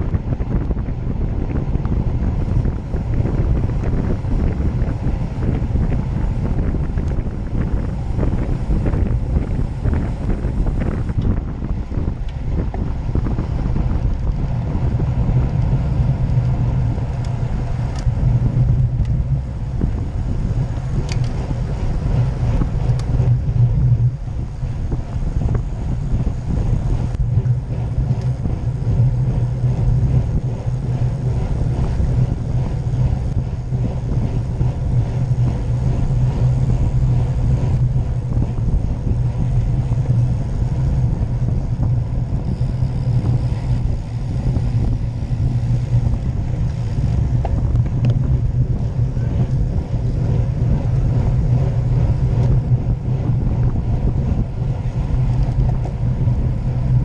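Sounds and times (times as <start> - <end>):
bicycle tyres on road: 0.0 - 57.0
wind on microphone: 0.0 - 57.0.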